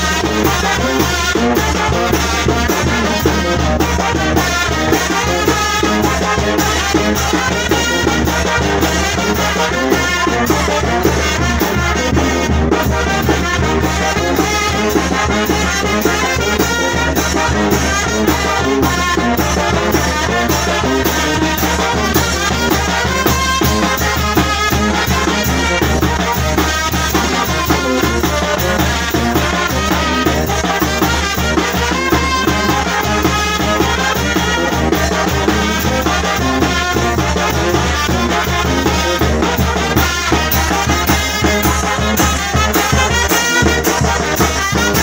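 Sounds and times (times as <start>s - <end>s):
brass band playing dance tune: 0.0s - 45.0s.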